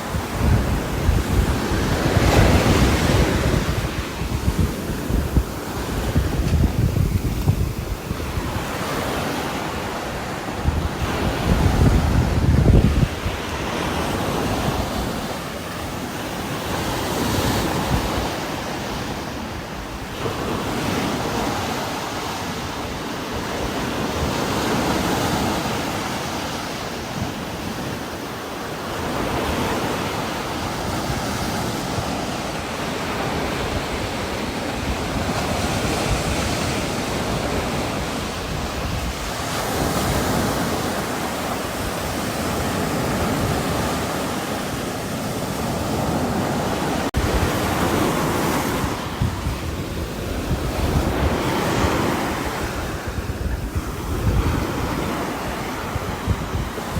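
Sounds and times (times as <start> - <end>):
wind gusting through trees: 0.0 - 56.9.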